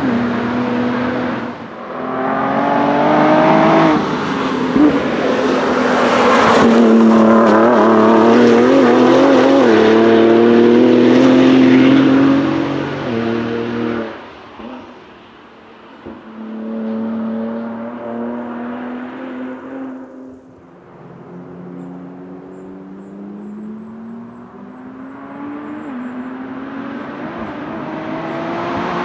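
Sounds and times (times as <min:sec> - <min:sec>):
car engine under throttle: 0:00.0 - 0:15.2, 0:15.8 - 0:29.0.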